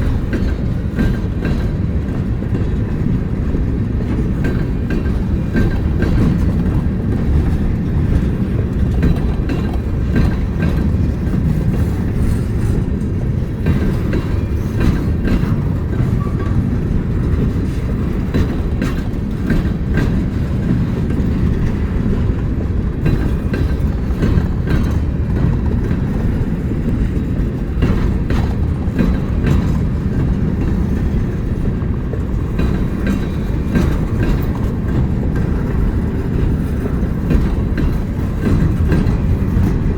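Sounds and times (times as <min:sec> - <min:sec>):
train rumbling past: 0:00.0 - 0:39.9
wheel clicks over rail joints: 0:00.0 - 0:39.9.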